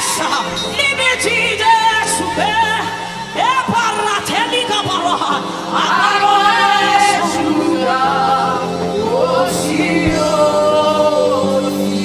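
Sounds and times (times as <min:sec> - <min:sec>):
sustained accompaniment: 0:00.0 - 0:12.0.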